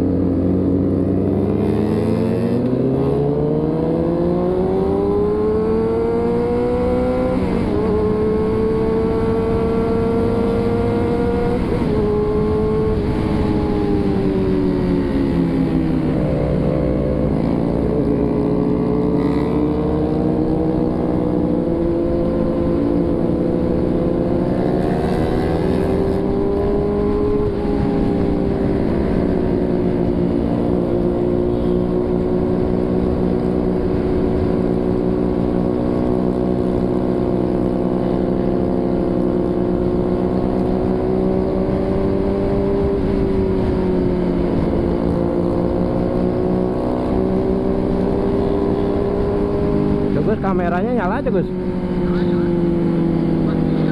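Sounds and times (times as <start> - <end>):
motorcycle engine revving: 0.0 - 53.9
wind and road rumble: 0.0 - 53.9.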